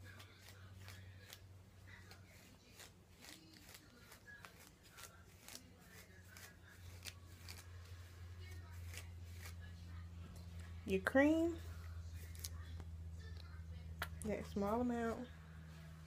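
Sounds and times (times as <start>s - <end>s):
comb scratching through hair: 0.0s - 12.8s, 14.2s - 16.0s
low steady hum: 0.0s - 16.0s.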